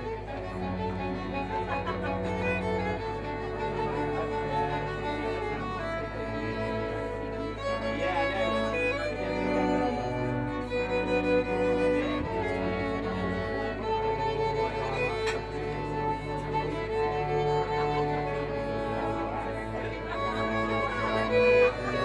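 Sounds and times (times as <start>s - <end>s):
lower bowed strings: 0.0s - 22.0s
violins playing slow melody: 0.0s - 22.0s.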